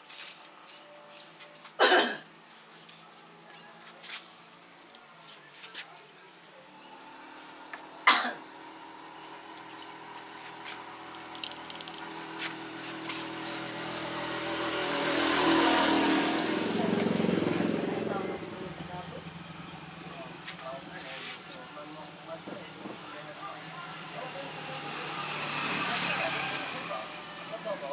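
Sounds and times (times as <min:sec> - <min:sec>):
aerosol spray hissing: 0:00.0 - 0:03.1, 0:05.6 - 0:25.4.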